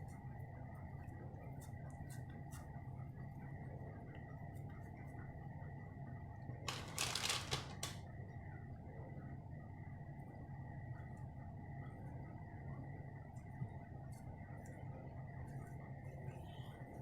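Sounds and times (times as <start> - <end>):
steady low hum: 0.0 - 6.8, 8.0 - 17.0.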